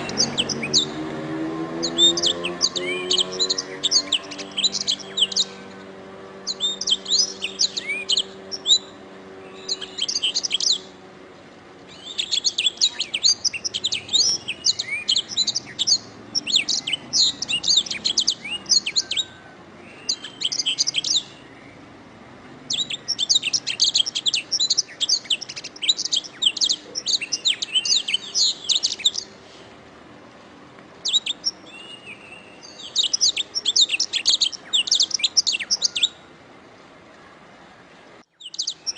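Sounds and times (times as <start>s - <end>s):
canary singing: 0.0s - 22.0s, 22.6s - 29.4s, 31.0s - 36.4s, 38.3s - 38.9s.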